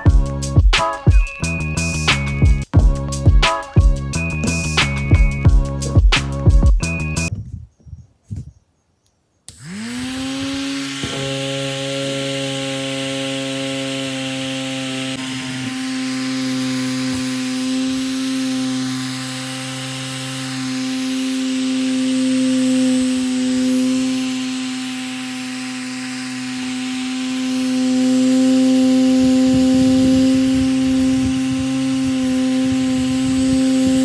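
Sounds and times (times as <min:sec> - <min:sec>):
small electric motor whining: 0:00.0 - 0:02.5, 0:03.1 - 0:07.3, 0:09.5 - 0:34.0.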